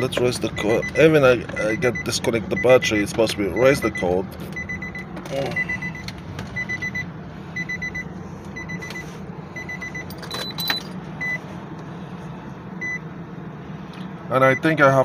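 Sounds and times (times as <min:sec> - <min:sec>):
car warning chime beeping: 0:00.0 - 0:11.5, 0:12.8 - 0:13.1, 0:14.4 - 0:14.9
steady low hum: 0:00.0 - 0:15.0.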